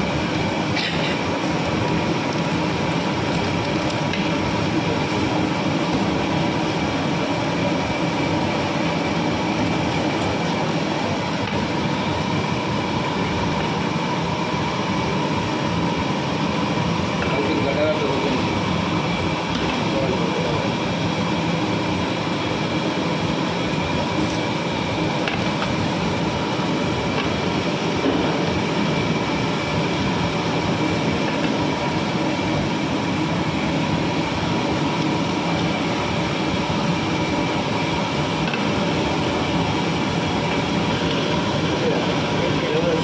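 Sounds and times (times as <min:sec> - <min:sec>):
steady rushing roar: 0:00.0 - 0:43.0.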